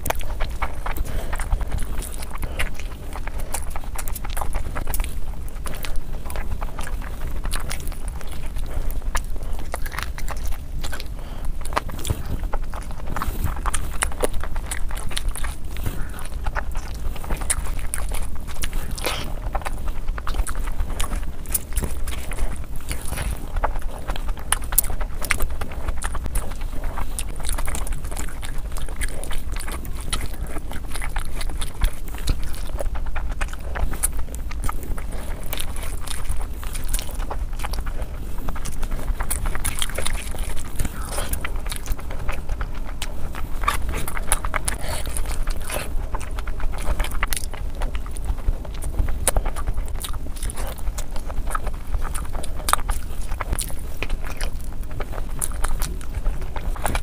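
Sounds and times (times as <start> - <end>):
wet chewing and lip smacks: 0.0 - 57.0.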